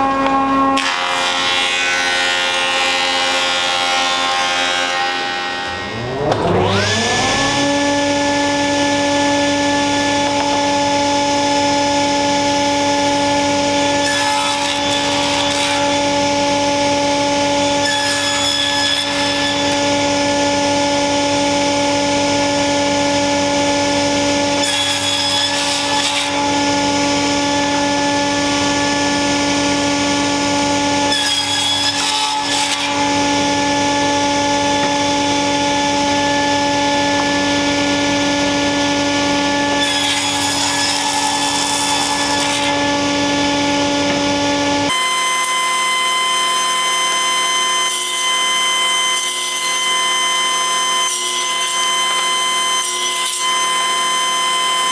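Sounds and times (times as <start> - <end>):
table saw cutting wood: 0.0 - 54.9.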